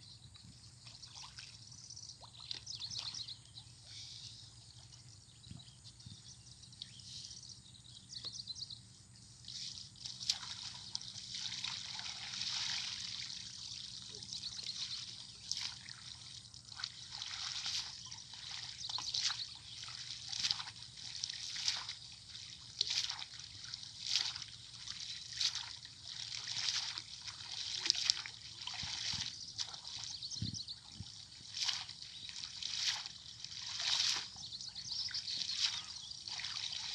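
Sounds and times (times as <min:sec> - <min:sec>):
river water sloshing and splashing: 0:00.8 - 0:03.6, 0:09.4 - 0:36.9.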